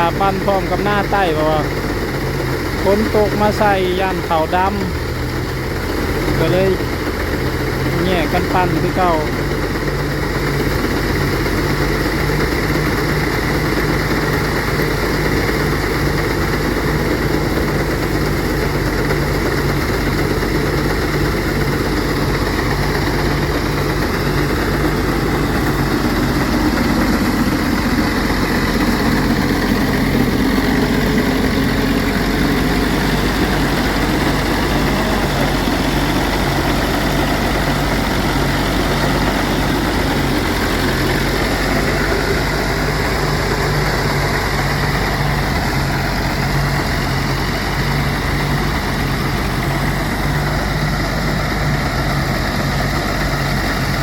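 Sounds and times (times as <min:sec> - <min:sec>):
threshing machine engine running: 0:00.0 - 0:54.0.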